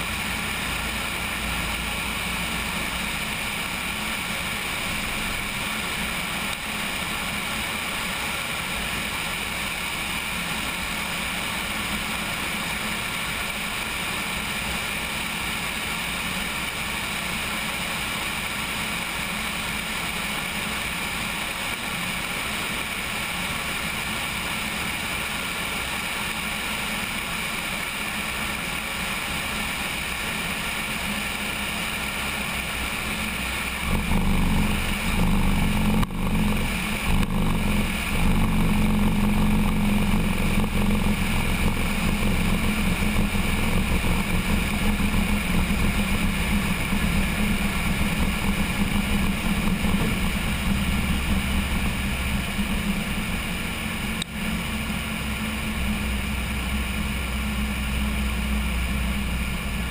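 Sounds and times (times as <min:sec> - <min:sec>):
small plane engine and propeller: 0:00.0 - 0:59.9.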